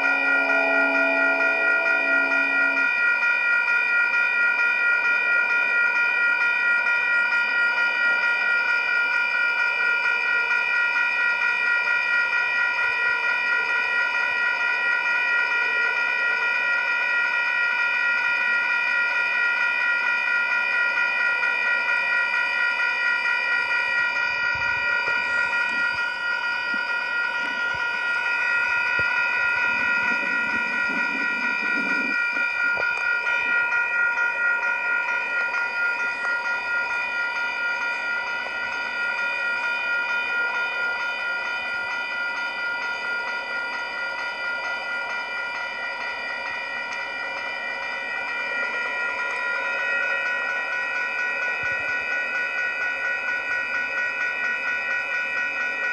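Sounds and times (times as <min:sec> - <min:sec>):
railroad crossing bell ringing: 0:00.0 - 0:55.9.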